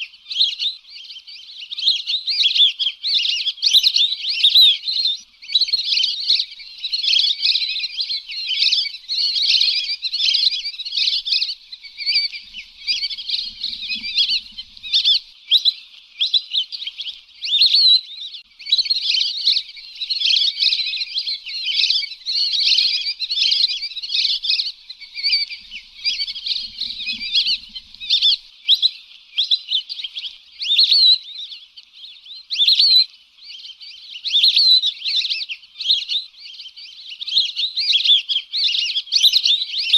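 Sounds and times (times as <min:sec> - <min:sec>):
ducks whistling calls: 0:00.0 - 0:39.9.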